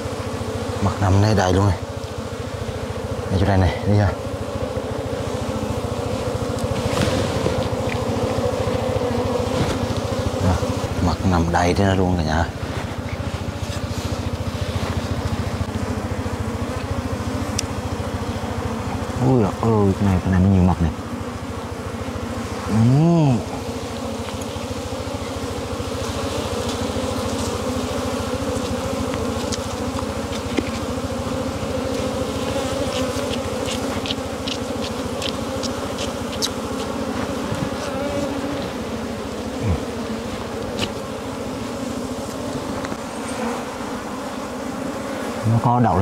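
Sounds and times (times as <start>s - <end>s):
honeybees buzzing: 0.0s - 46.0s.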